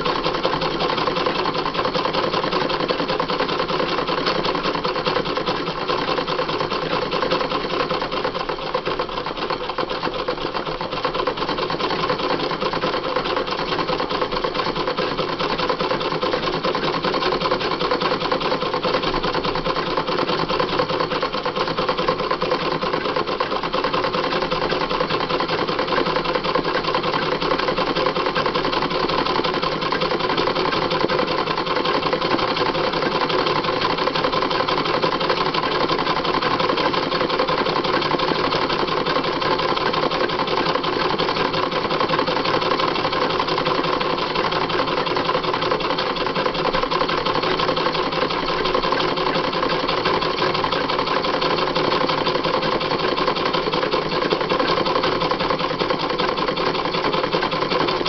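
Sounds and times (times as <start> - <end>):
sewing machine stitching fast: 0.0 - 58.0.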